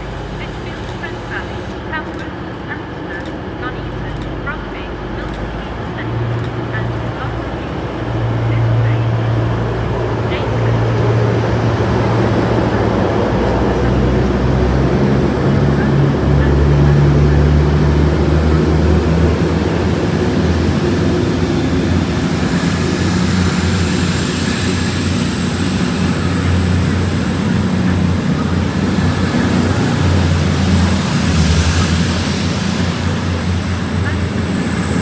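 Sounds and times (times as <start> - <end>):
locomotive engine hum: 0.0 - 35.0.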